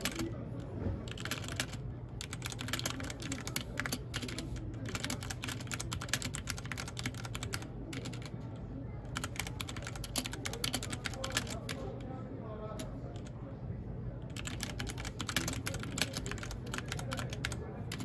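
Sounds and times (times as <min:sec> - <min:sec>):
mechanical keyboard typing: 0:00.0 - 0:00.4, 0:01.0 - 0:08.4, 0:09.0 - 0:12.0, 0:12.8 - 0:13.3, 0:14.3 - 0:18.0.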